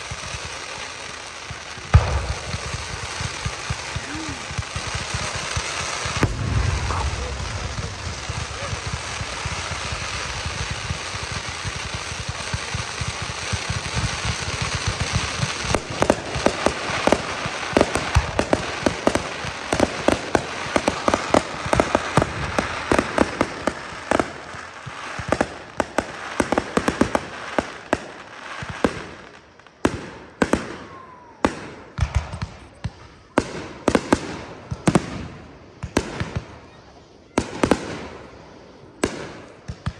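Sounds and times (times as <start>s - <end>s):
fireworks crackling: 0.0s - 39.9s
fireworks sharp bangs: 0.0s - 39.9s.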